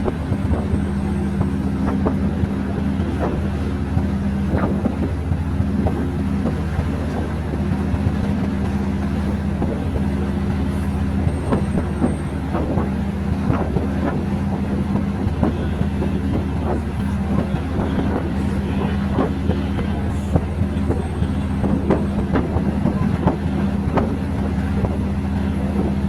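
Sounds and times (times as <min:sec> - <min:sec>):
train engine drone: 0:00.0 - 0:26.0
train wheels clattering on rails: 0:00.0 - 0:26.0.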